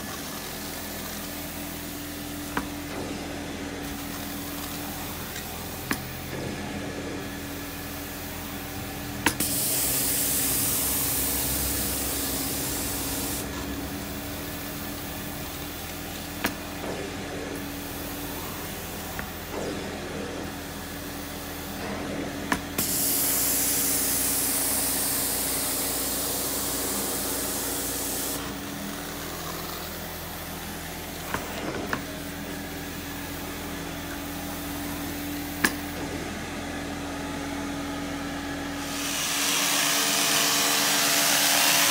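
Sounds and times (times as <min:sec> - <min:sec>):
vacuum motor running: 0:00.0 - 0:41.9.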